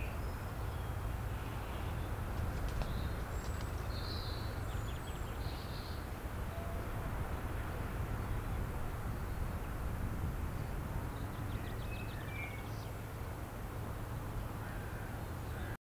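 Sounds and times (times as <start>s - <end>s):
low outdoor background noise: 0.0s - 15.8s.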